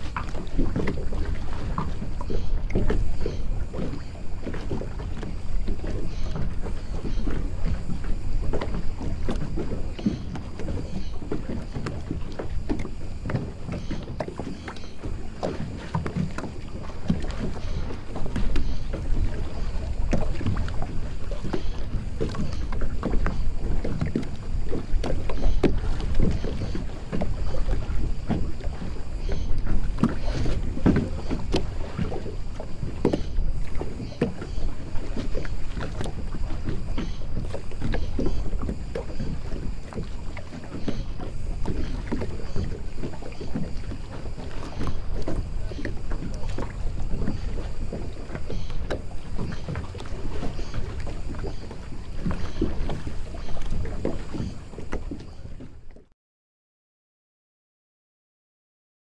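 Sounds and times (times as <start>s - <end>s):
small knocks and splashes: 0.0s - 56.1s
water lapping against boats: 0.0s - 56.1s.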